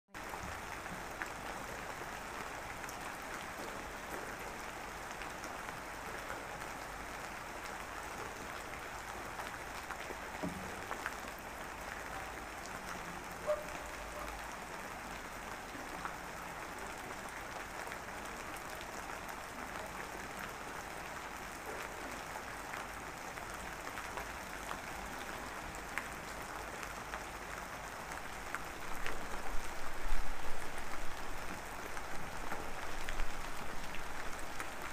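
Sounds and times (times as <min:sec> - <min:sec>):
steady rain patter: 0:00.1 - 0:34.9.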